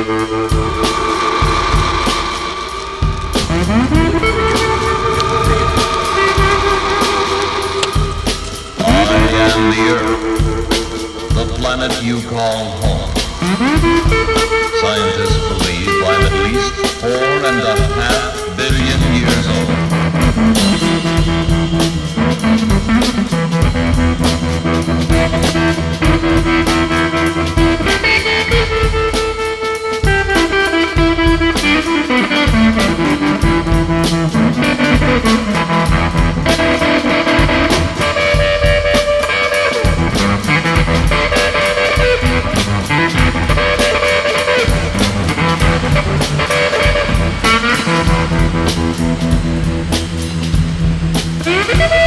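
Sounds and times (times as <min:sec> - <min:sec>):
guitar music: 0:00.0 - 0:52.0
steady drum beat: 0:00.0 - 0:52.0.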